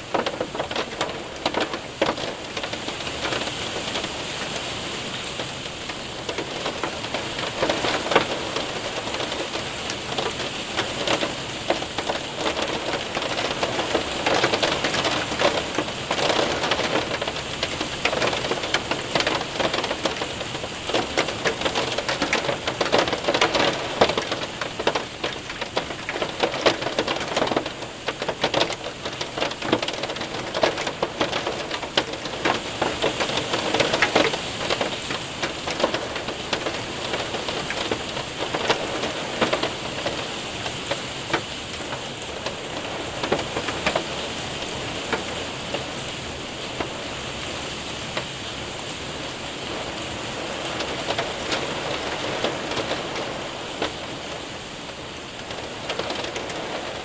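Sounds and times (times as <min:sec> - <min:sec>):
hail ticking on window and roof: 0:00.0 - 0:57.0
rain hiss: 0:00.0 - 0:57.0.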